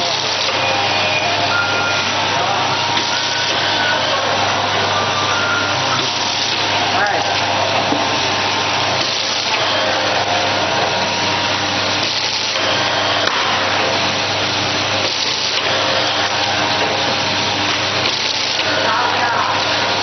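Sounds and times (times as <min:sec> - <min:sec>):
packaging machine mechanical noise: 0:00.0 - 0:20.0.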